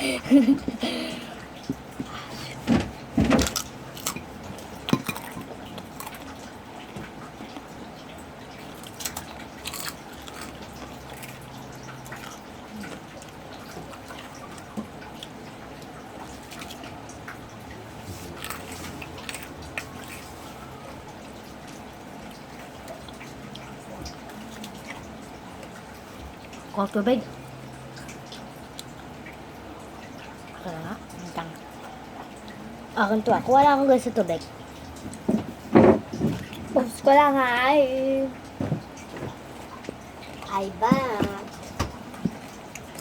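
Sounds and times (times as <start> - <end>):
chewing crunchy pork rinds: 3.4 - 35.3, 38.3 - 43.0.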